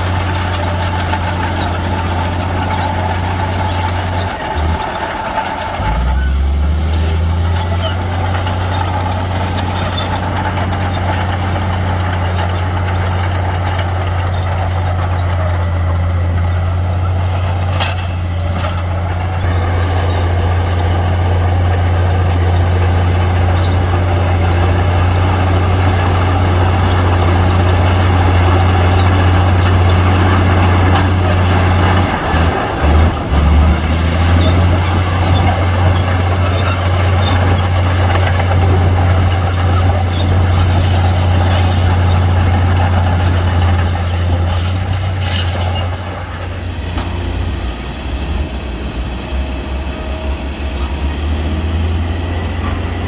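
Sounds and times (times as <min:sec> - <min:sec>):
diesel earthmoving machinery running: 0:00.0 - 0:53.0.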